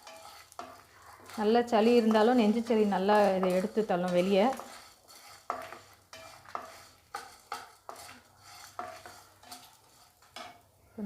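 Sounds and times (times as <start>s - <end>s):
metal spoon scraping a pan: 0.0s - 10.7s
spoon clinking against pan: 0.0s - 10.7s
food sauteing in oil: 0.0s - 11.0s.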